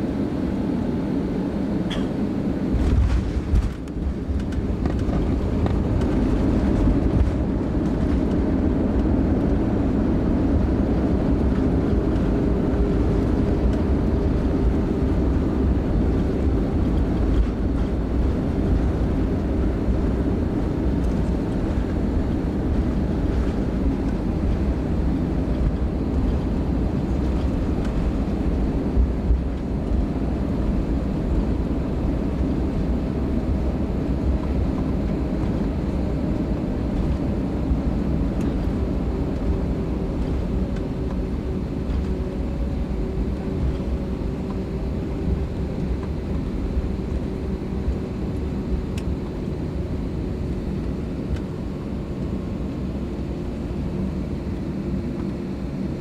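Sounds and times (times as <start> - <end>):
aircraft cabin rumble on runway: 0.0 - 56.0
faint engine hum: 0.0 - 56.0.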